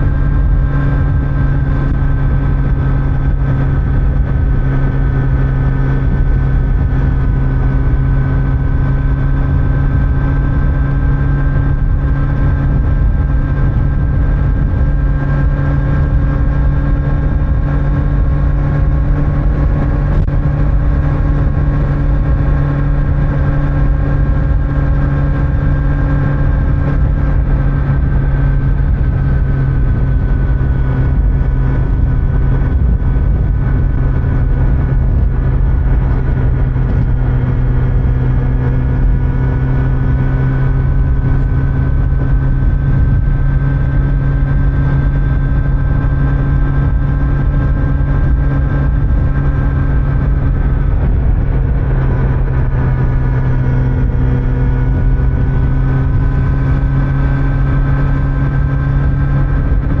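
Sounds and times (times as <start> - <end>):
motorcycle engine cruising: 0.0 - 60.0
road noise: 0.0 - 60.0.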